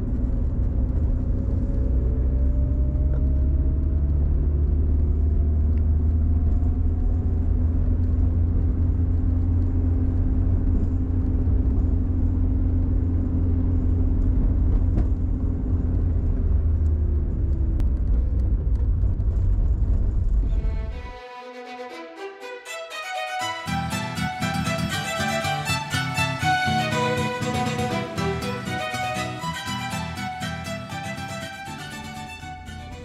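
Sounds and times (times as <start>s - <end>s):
road rumble: 0.0s - 21.2s, 23.8s - 33.0s.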